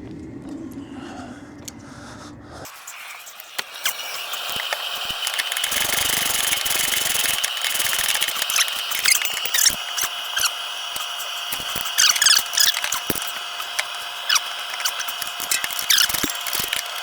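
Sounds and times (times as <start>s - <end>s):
ratchet spanner clicking: 3.3s - 17.0s.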